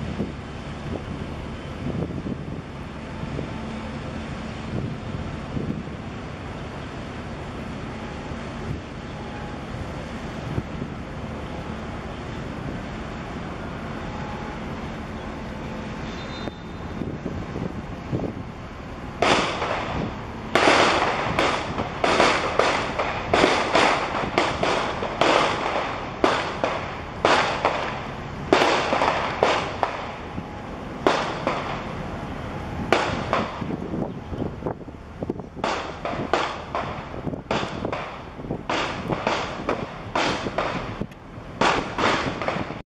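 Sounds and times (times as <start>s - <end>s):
hiss of wind and water: 0.0s - 42.8s.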